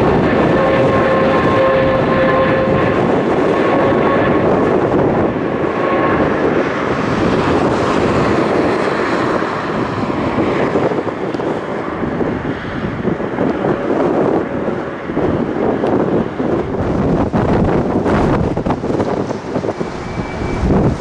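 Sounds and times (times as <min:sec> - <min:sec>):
jet engine whining tones: 0:00.0 - 0:21.0
jet engines rumbling: 0:00.0 - 0:21.0.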